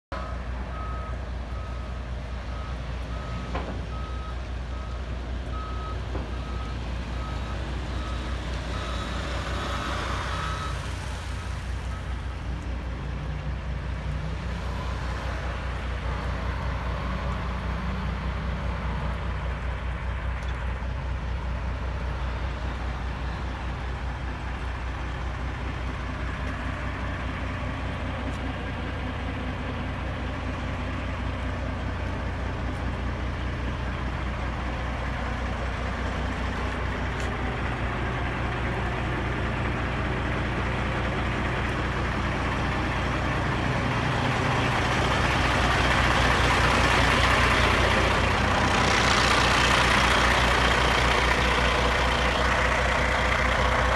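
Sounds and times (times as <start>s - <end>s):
diesel truck idling: 0.1s - 53.9s.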